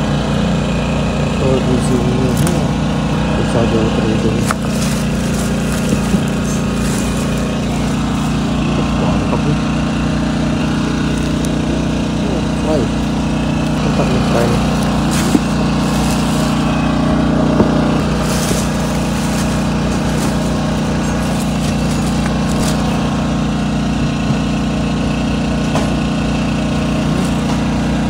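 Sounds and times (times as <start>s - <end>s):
engine droning steadily: 0.0s - 28.0s.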